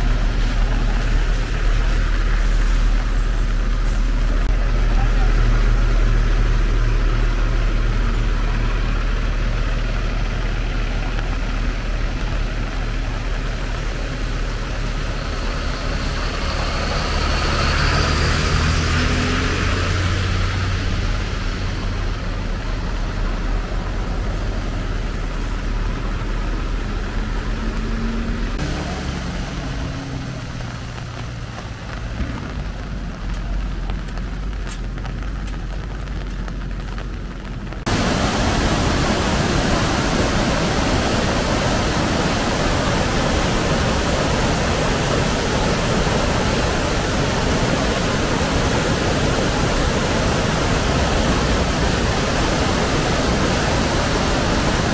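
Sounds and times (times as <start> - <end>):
rushing flooded stream: 0.0 - 54.9
vehicles on a wet road: 0.0 - 54.9.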